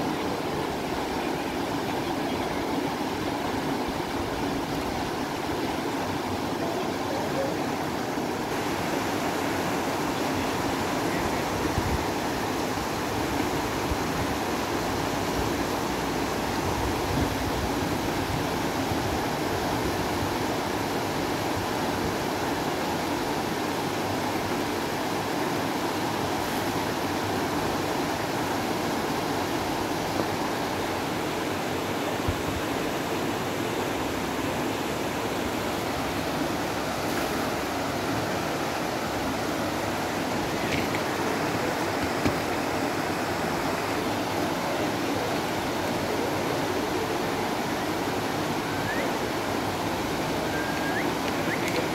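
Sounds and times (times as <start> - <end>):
river rushing over rocks: 0.0 - 51.9.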